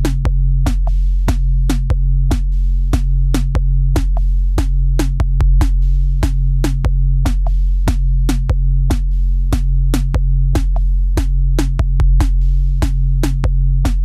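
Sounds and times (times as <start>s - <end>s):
electronic music with drum-machine beat: 0.0s - 14.0s.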